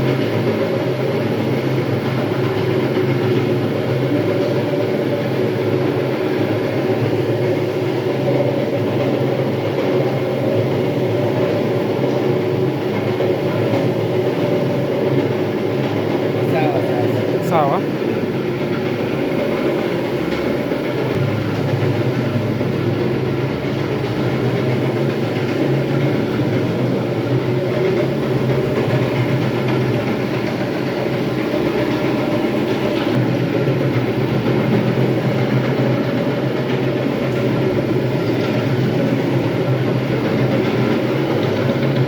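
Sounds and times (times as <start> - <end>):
floor grinder rumbling: 0.0 - 42.0.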